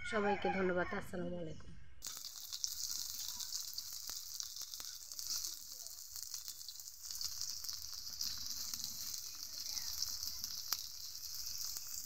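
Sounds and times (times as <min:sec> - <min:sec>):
okra sizzling in oil: 0:02.0 - 0:12.0
small pops and crackles of oil: 0:02.0 - 0:12.0.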